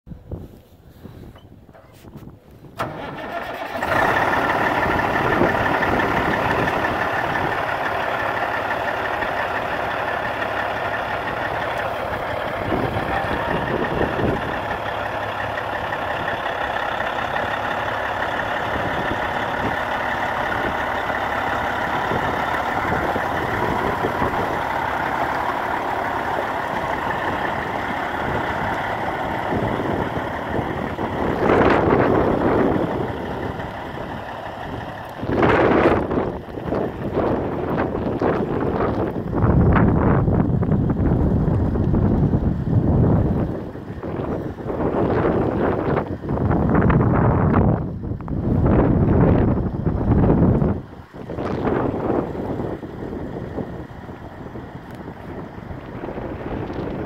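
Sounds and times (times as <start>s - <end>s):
diesel truck engine idling: 2.3s - 57.0s.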